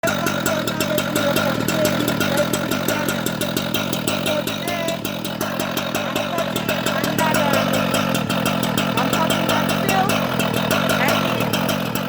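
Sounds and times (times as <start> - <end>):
cut-off saw running: 0.0 - 12.0.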